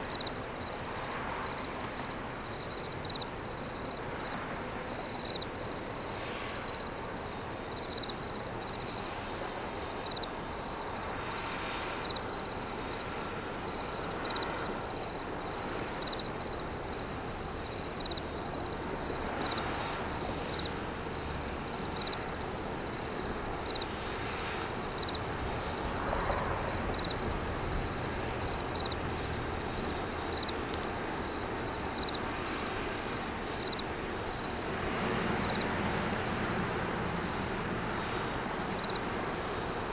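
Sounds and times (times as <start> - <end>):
insects trilling and chirping: 0.0 - 39.9.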